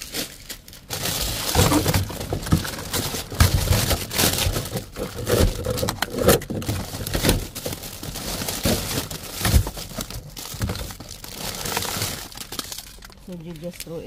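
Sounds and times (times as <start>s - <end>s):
plastic packages rustling and crinkling: 0.0s - 14.0s.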